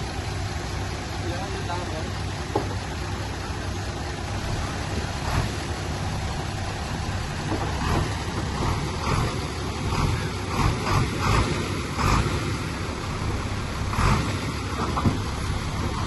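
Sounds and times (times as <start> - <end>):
bulldozer diesel engine under load: 0.0 - 16.0.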